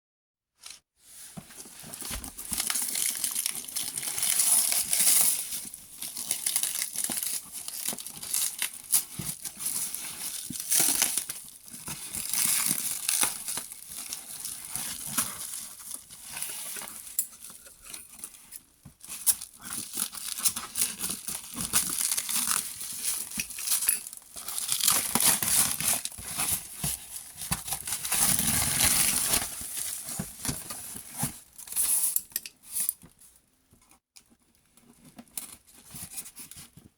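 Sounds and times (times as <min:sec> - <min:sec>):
plastic and cardboard crinkling: 0:01.1 - 0:33.2.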